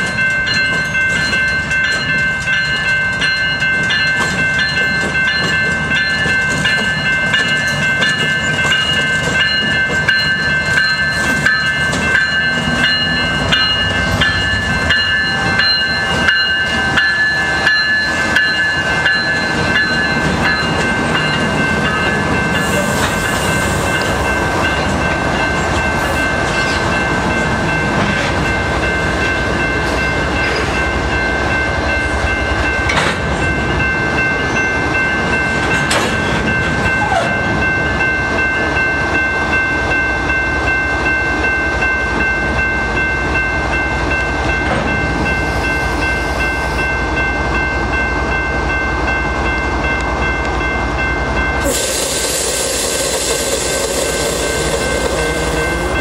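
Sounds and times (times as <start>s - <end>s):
diesel locomotives rumbling: 0.0s - 56.0s.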